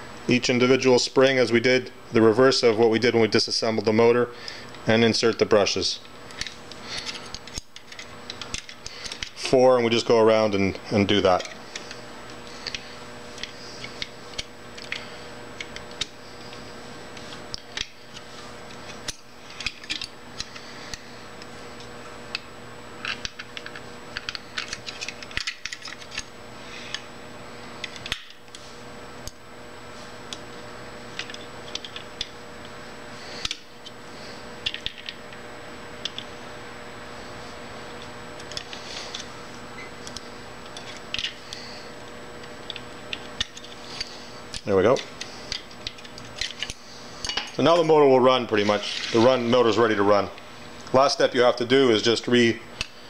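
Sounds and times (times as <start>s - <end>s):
faint background hum: 0.0s - 53.0s.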